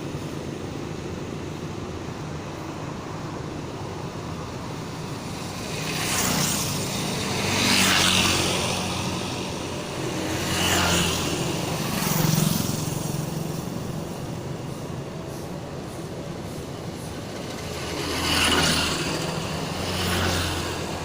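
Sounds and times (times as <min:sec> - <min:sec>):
low traffic rumble: 0:00.0 - 0:21.0
vehicles passing close by: 0:00.0 - 0:21.0.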